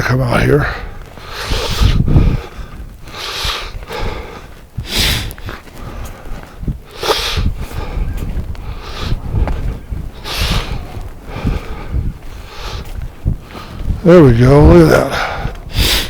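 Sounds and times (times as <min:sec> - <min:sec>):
wind rumbling on microphone: 0:00.0 - 0:16.0
person breathing hard: 0:00.6 - 0:14.0, 0:14.9 - 0:16.0.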